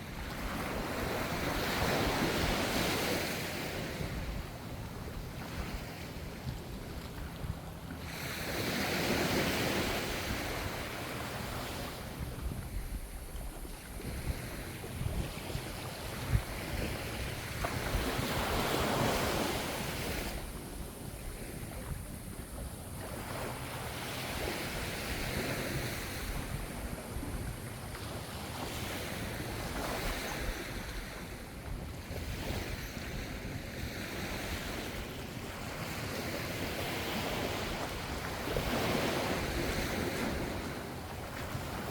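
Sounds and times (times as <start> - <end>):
ocean waves breaking: 0.0 - 41.9
wind rumbling on microphone: 0.0 - 41.9.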